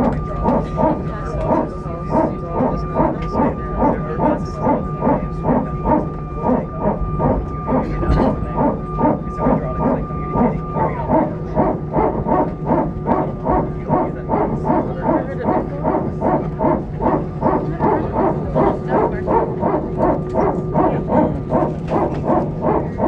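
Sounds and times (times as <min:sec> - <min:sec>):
aircraft hydraulic unit barking: 0:00.0 - 0:23.0.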